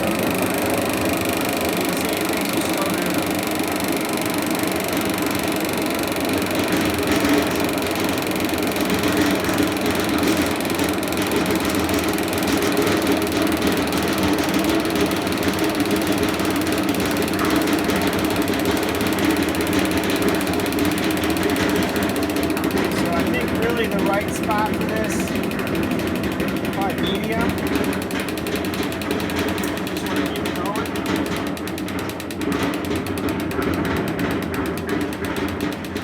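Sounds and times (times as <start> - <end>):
electric motor running: 0.0 - 36.0
fast mechanical clatter: 0.0 - 36.0
motor ticking: 0.0 - 36.0.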